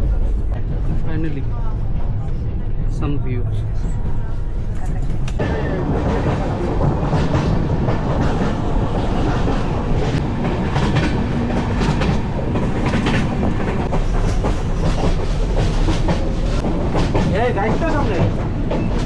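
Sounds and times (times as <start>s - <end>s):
train coach rumble: 0.0s - 19.0s.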